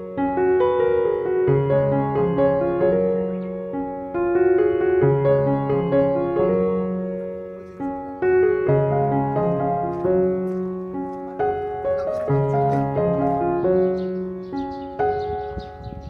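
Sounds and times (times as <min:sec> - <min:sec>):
slow piano piece: 0:00.0 - 0:16.0.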